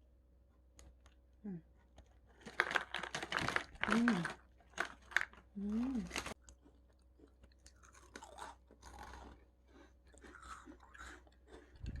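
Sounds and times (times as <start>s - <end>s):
person chewing food: 1.8s - 12.0s
crunching bites: 2.4s - 12.0s.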